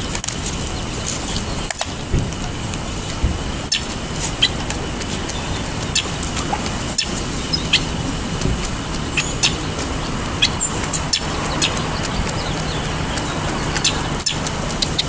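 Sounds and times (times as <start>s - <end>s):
beak tapping on pavement: 0.0s - 15.0s
low background rumble: 0.0s - 15.0s.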